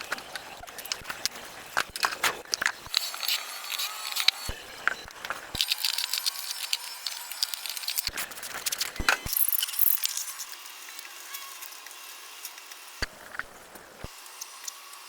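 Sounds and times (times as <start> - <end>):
scratchy hiss: 2.0 - 15.0.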